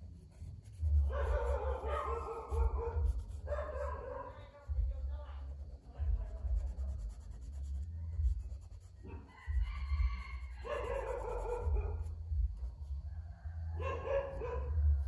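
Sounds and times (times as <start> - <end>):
charcoal scratching on paper: 0.0 - 13.0.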